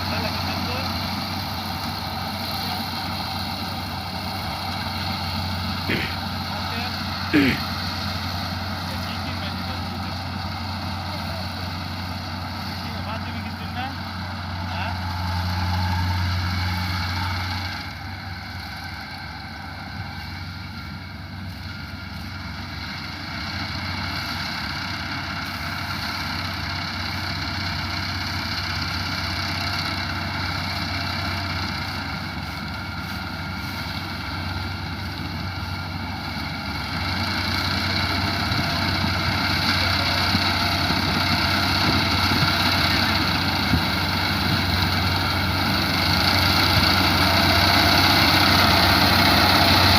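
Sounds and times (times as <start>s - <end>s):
harvesting machine engine running: 0.0s - 49.9s.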